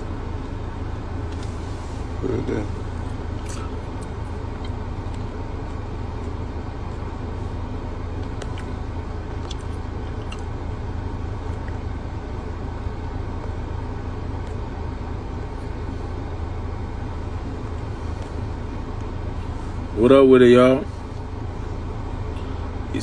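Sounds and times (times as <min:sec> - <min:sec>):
car engine rumble inside cabin: 0:00.0 - 0:23.0.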